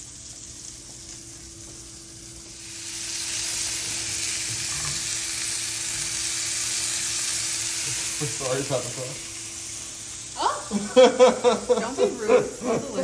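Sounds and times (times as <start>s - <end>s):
patties sizzling in oil: 0.0s - 13.0s.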